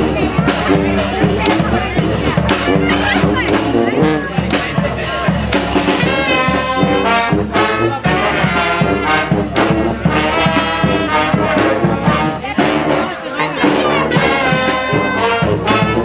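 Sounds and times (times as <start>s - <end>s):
brass horns playing: 0.0s - 16.0s
steady drum beat: 0.0s - 16.0s.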